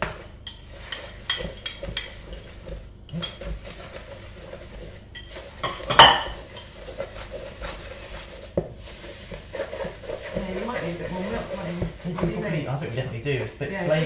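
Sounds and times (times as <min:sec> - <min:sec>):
wooden spoon stirring dough: 0:00.0 - 0:14.0.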